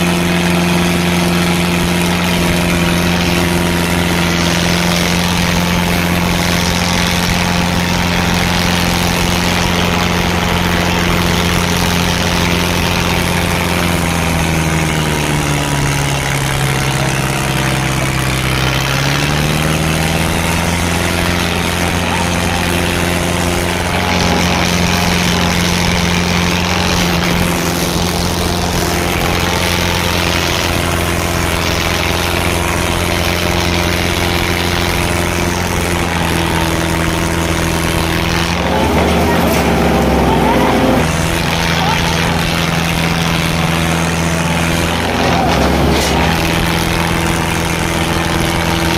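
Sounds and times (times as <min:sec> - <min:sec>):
diesel tractor engine running hard: 0:00.0 - 0:48.9.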